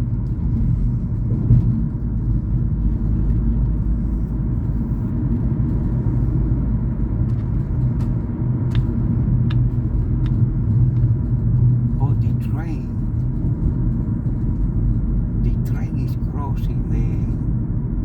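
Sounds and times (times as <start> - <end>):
road and engine noise in car: 0.0 - 18.0.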